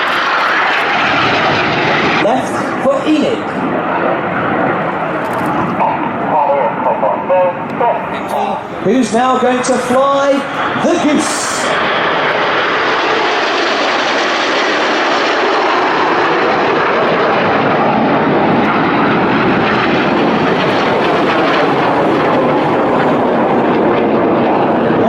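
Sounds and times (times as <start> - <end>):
jets flying over: 0.0 - 25.0.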